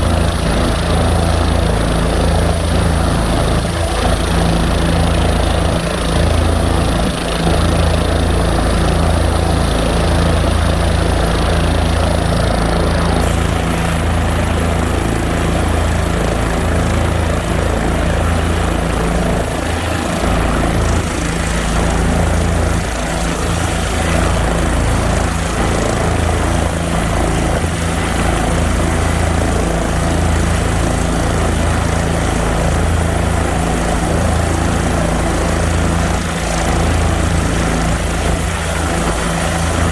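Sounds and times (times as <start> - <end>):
aircraft engine rumble: 0.0 - 39.9.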